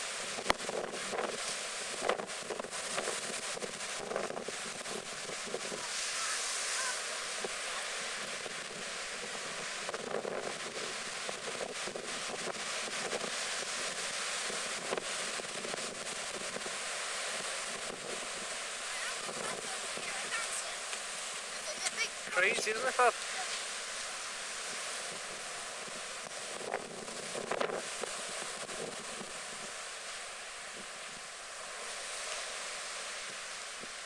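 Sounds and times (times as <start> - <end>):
surf breaking and roaring: 0.0 - 34.0
wind buffeting microphone: 0.2 - 22.3, 23.0 - 34.0.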